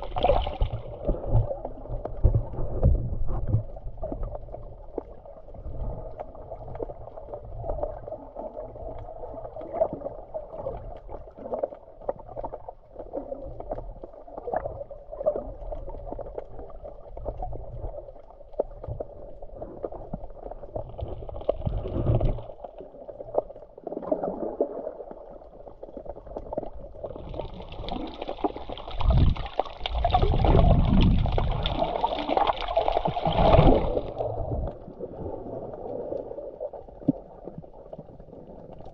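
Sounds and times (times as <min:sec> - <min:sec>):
muffled water sloshing and gurgling: 0:00.0 - 0:38.9.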